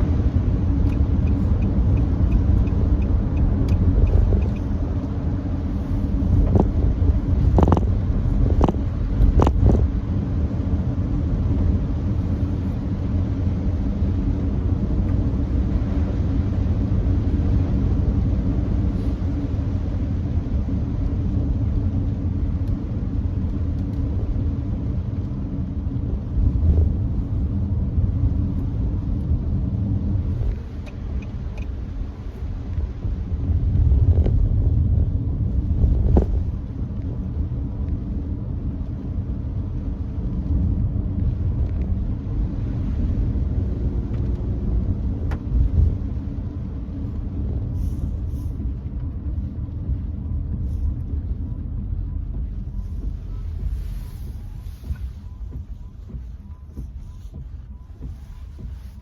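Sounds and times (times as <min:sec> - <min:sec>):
road and tyre noise: 0:00.0 - 0:59.0.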